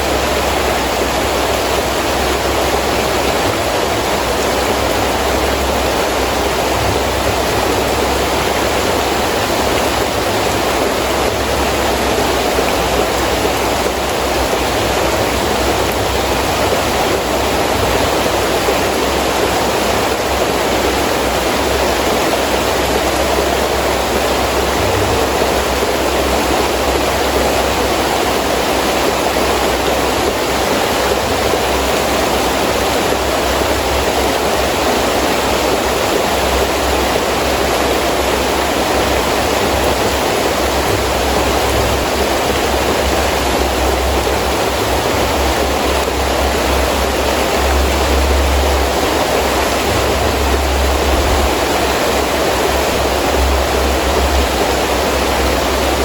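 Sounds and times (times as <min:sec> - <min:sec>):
heavy rain pouring: 0:00.0 - 0:56.0
wind: 0:00.0 - 0:56.0.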